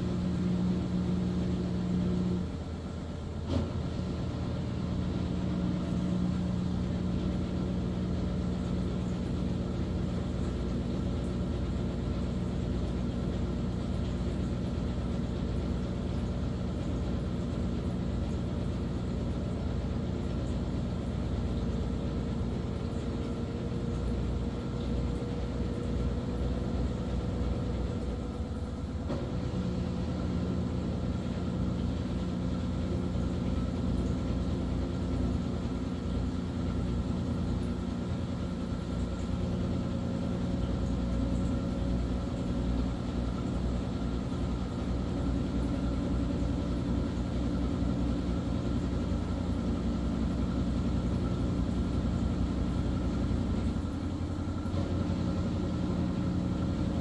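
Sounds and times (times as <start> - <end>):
washing machine rumbling: 0.0 - 57.0.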